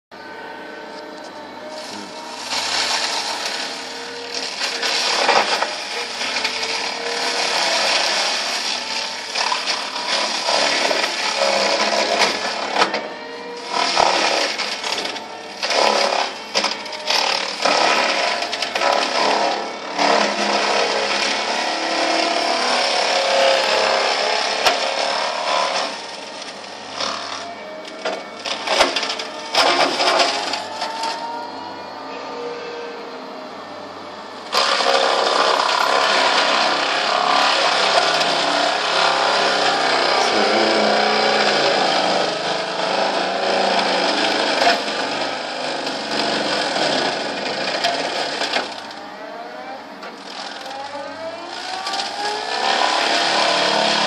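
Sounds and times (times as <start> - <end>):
mulcher grinding brush: 0.2 - 54.0.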